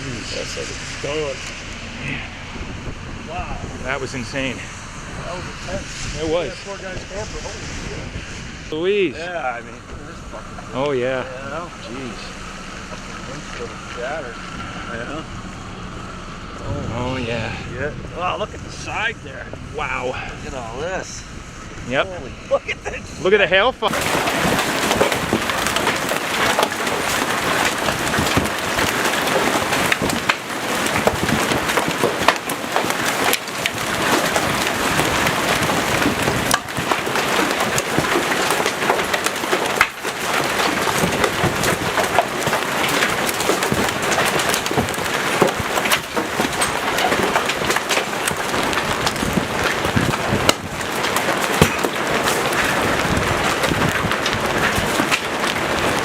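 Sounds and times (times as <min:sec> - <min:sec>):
hail and rain pelting vehicle: 0:00.0 - 0:56.0.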